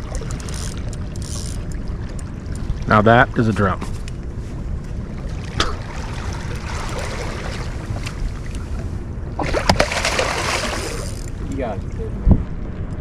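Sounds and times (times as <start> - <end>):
water around boat: 0.0 - 13.0
wind on microphone: 0.0 - 13.0.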